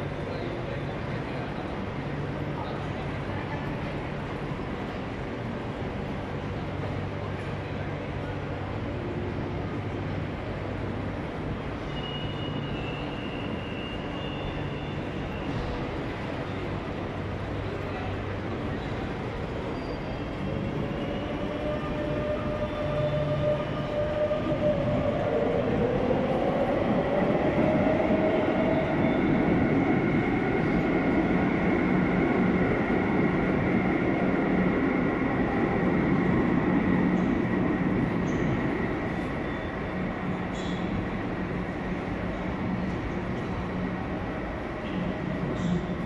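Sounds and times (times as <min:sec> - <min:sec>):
metro train rumble: 0:00.0 - 0:46.0.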